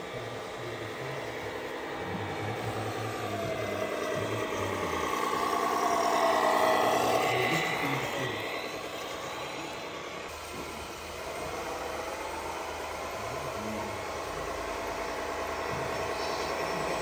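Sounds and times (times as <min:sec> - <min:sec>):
electric motors whining: 0:00.0 - 0:17.0
steady mechanical hum: 0:00.0 - 0:17.0.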